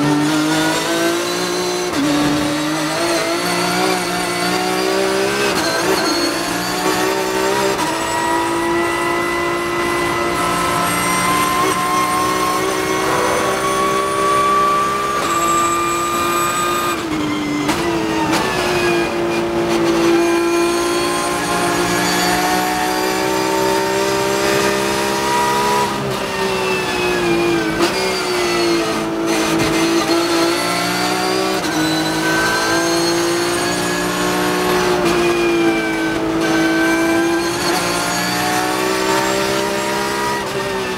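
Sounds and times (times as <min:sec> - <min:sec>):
race car engine at high revs: 0:00.0 - 0:40.9.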